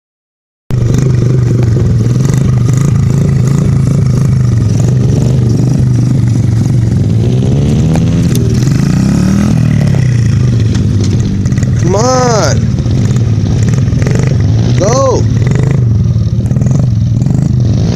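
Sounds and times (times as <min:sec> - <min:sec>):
dirt bike engine revving: 0:00.7 - 0:17.9.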